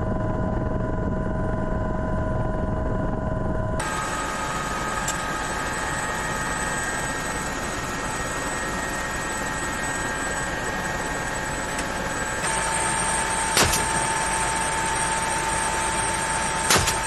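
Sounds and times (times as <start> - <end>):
helicopter running: 0.3 - 17.0.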